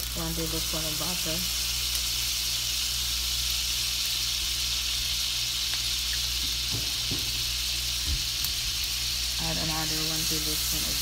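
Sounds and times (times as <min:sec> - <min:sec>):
butter sizzling in a pan: 0:00.0 - 0:11.0.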